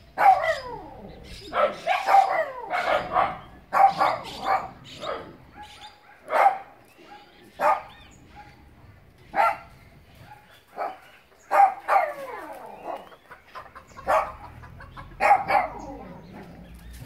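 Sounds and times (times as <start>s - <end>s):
dog barking: 0.1s - 8.7s, 9.3s - 13.2s, 14.0s - 16.6s.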